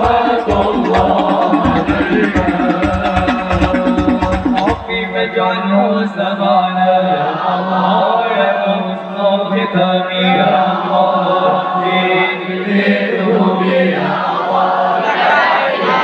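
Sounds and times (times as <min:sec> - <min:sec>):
men chanting through loudspeakers: 0:00.0 - 0:16.0.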